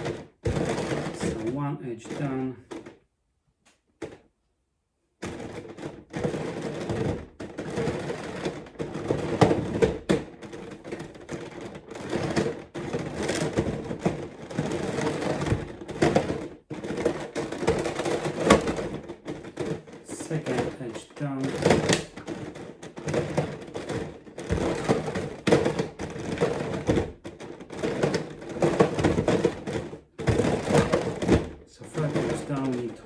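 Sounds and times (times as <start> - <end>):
plastic puzzle cube clacking: 5.2 - 33.0.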